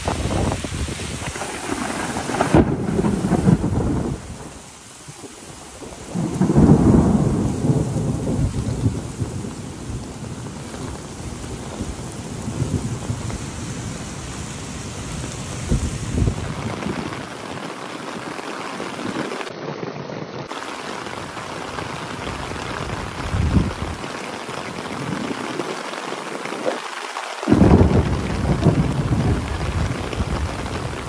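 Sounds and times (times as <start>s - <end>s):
heavy rain on paving: 0.0s - 31.0s.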